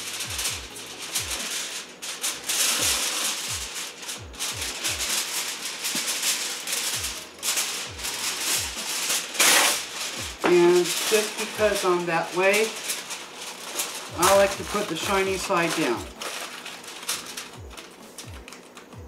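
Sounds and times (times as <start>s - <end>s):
aluminum foil crinkling: 0.0s - 19.0s
background music with kick drum: 0.0s - 19.0s.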